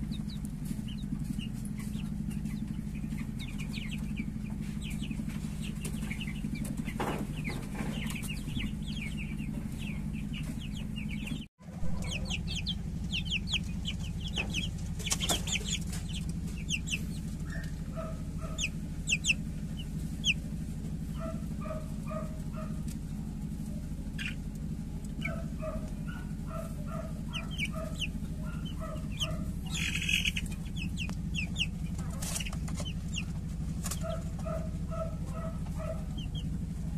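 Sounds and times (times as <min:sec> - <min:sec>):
chicks peeping: 0:00.0 - 0:36.9
low clucking: 0:00.0 - 0:36.9
steady low hum: 0:00.0 - 0:36.9.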